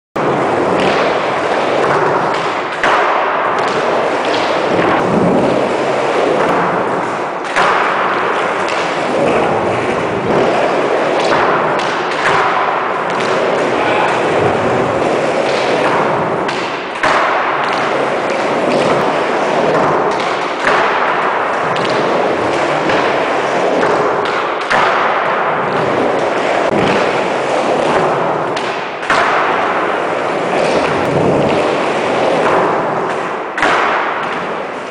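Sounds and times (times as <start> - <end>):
skateboard pop and clatter: 0.2 - 34.9
skateboard wheels rolling on wood: 0.2 - 34.9.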